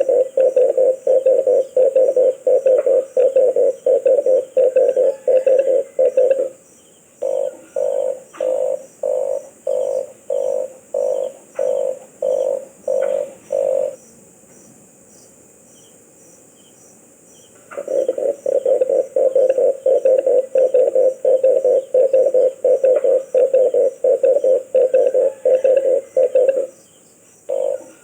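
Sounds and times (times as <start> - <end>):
dove cooing: 0.0 - 6.6, 7.2 - 14.0, 17.7 - 26.8, 27.5 - 28.0.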